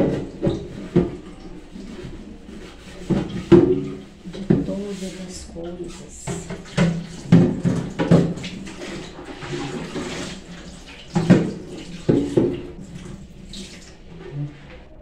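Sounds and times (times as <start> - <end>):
tap water running into sink: 0.0 - 4.8, 5.7 - 14.2.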